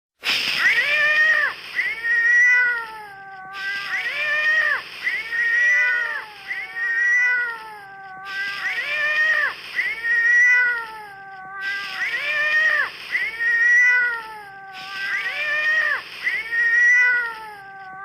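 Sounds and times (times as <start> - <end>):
cat yowling: 0.6 - 18.0.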